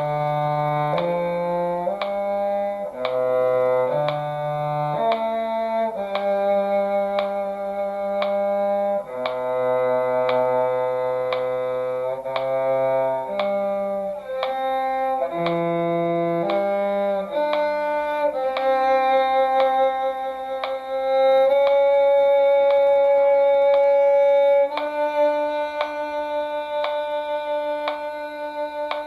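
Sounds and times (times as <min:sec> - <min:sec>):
cello line: 0:00.0 - 0:29.0
metronome clicking: 0:00.0 - 0:29.0
violin line: 0:00.0 - 0:29.0.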